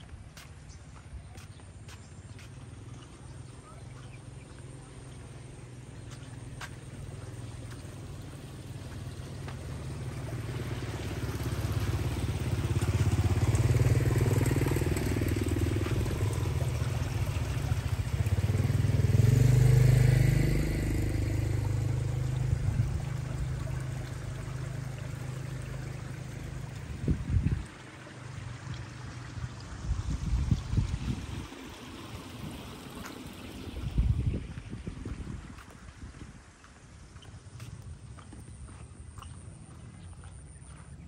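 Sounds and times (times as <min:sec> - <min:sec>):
motorbikes passing: 0:00.0 - 0:41.0.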